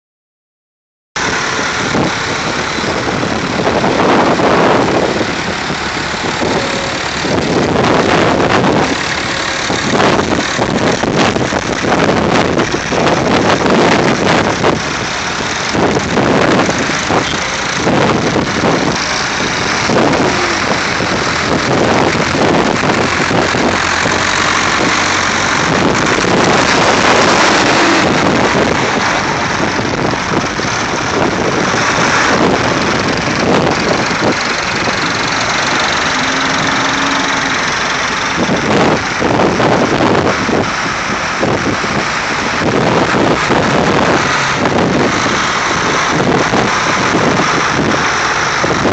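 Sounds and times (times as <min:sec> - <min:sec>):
tractor engines running: 0:01.2 - 0:48.9.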